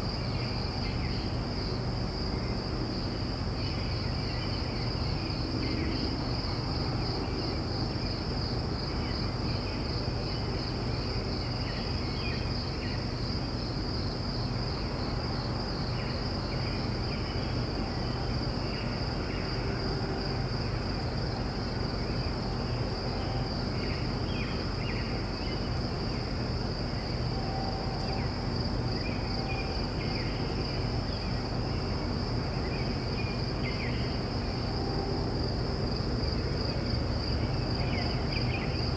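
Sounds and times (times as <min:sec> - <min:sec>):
distant crickets trilling: 0:00.0 - 0:38.9.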